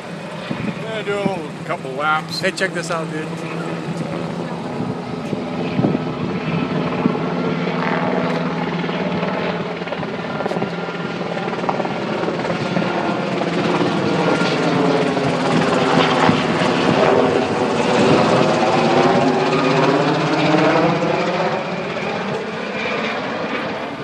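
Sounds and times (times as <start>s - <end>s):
helicopter rotor and engine: 0.0s - 24.0s.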